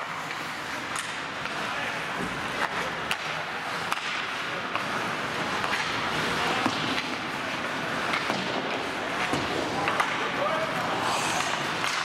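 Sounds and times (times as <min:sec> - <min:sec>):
skates scraping on ice: 0:00.0 - 0:01.7, 0:02.3 - 0:12.0
hockey sticks and puck clacking: 0:00.0 - 0:12.0.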